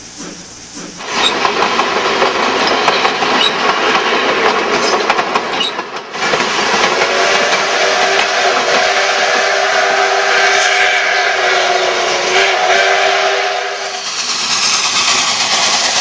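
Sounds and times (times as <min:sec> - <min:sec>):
steam locomotive clatter: 0:00.0 - 0:16.0.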